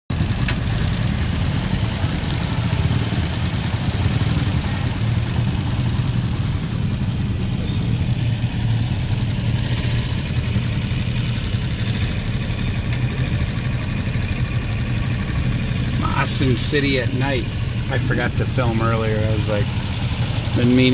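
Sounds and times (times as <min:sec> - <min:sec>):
motorbikes idling and moving: 0:00.1 - 0:20.9
traffic engine drone: 0:00.1 - 0:20.9.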